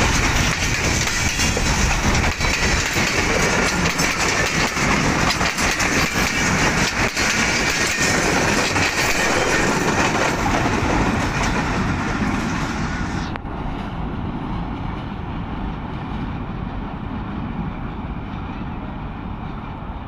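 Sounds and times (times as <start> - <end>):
train wheels clattering on rails: 0.0 - 19.6.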